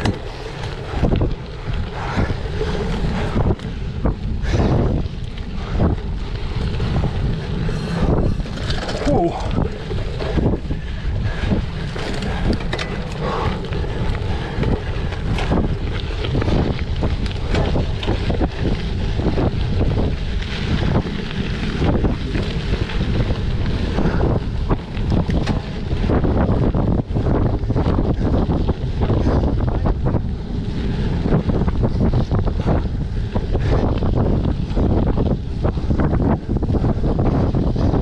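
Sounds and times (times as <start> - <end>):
bicycle rattles and knocks: 0.0 - 38.0
wind buffeting microphone: 0.0 - 38.0.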